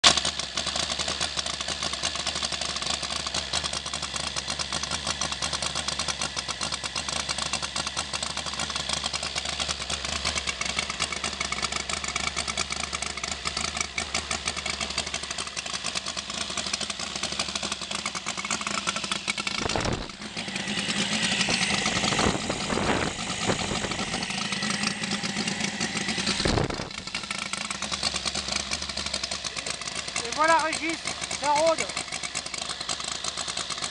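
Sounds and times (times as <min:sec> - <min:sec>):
radial engine running: 0:02.3 - 0:33.9.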